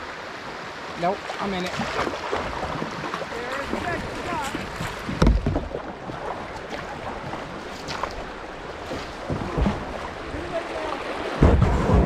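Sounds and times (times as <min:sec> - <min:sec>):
moving water wash: 0:00.0 - 0:12.0
paddles splashing in water: 0:00.0 - 0:12.0.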